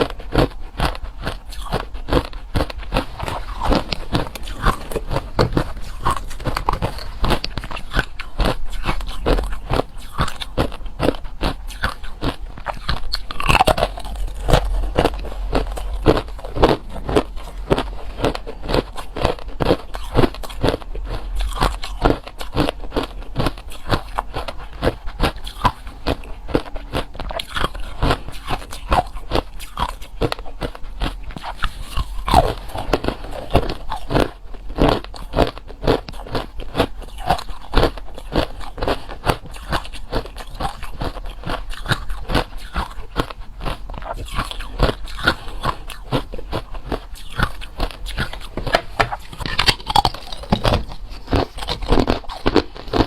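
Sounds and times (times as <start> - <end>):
chewing ice crunches: 0.0 - 53.0.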